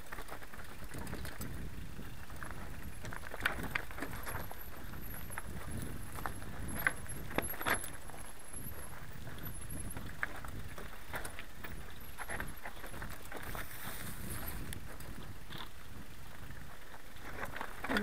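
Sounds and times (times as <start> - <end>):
bike tyres rumbling over stones: 0.0 - 18.0
chain and rocks clacking: 0.0 - 18.0.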